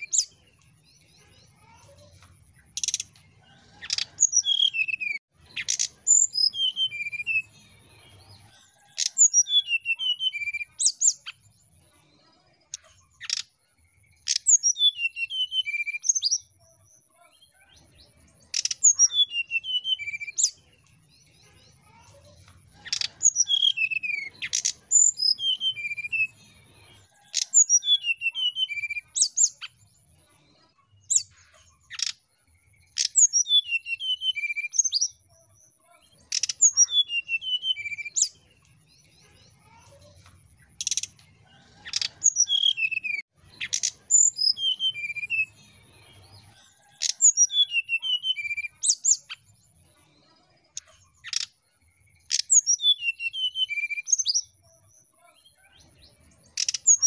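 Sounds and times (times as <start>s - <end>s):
bird singing chirpy notes: 0.0s - 8.2s, 8.8s - 11.6s, 12.3s - 16.6s, 17.9s - 22.1s, 22.8s - 30.0s, 30.7s - 35.3s, 36.0s - 39.0s, 40.6s - 46.2s, 47.0s - 49.6s, 51.2s - 54.6s.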